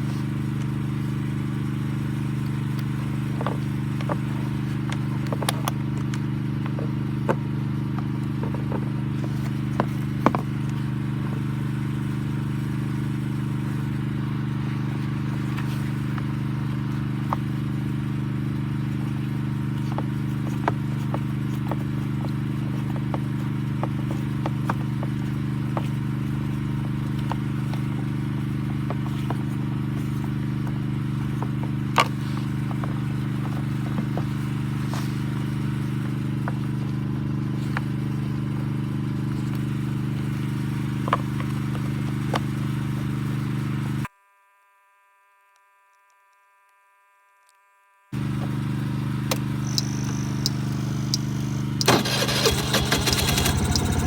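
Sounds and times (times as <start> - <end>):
moped engine idling: 0.0 - 44.0, 48.2 - 54.0.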